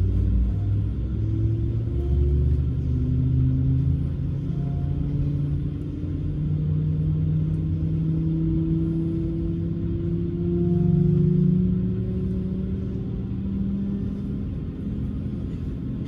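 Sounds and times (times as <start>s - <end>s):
jet engine hum in cabin: 0.0s - 16.0s.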